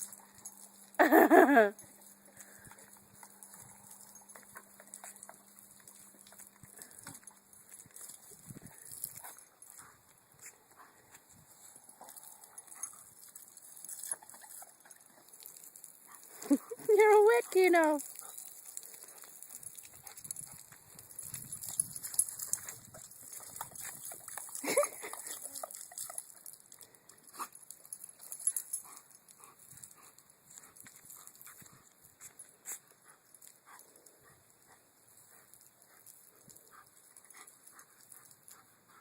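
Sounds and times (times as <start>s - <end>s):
soft clicks and patter: 0.0s - 39.0s.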